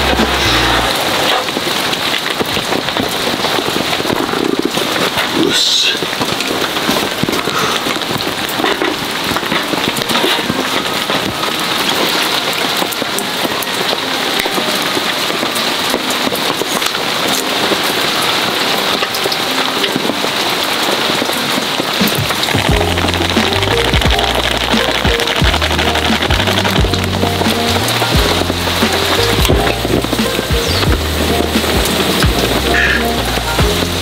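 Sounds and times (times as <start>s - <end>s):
heavy rain on tent fabric: 0.0s - 34.0s.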